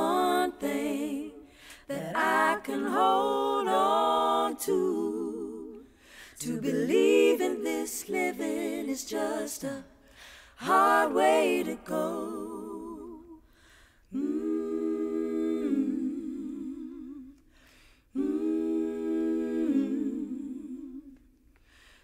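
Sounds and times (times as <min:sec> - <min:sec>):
female group singing a cappella: 0:00.0 - 0:22.0.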